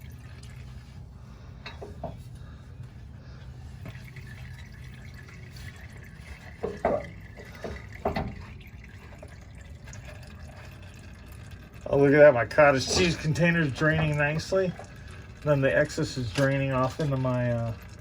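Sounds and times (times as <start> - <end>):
fuel trickling into container: 0.0 - 18.0
loud drips: 0.0 - 18.0.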